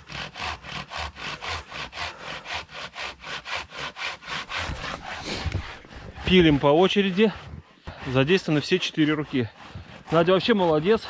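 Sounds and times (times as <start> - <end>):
hand saw cutting log: 0.0 - 11.0.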